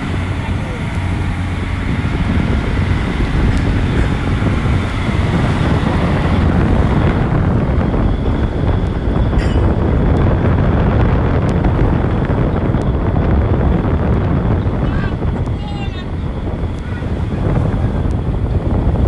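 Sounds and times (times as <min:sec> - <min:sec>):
boat engines rumbling: 0:00.0 - 0:19.0
wind buffeting microphone: 0:00.0 - 0:19.0.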